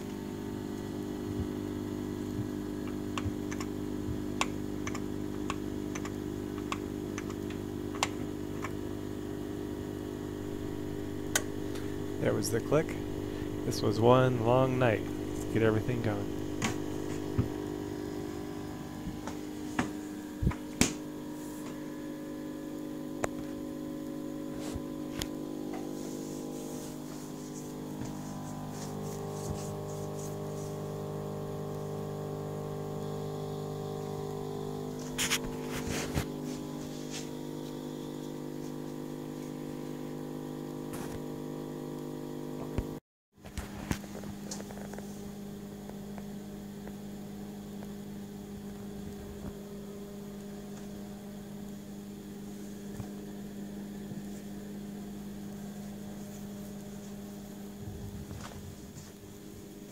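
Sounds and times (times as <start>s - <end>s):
refrigerator humming: 0.0s - 59.9s.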